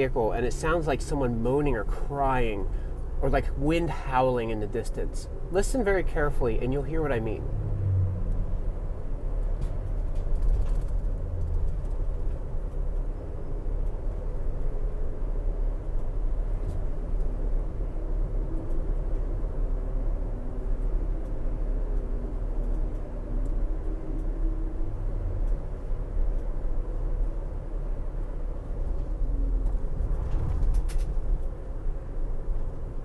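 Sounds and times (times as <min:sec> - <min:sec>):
tire road rumble: 0:00.0 - 0:33.0.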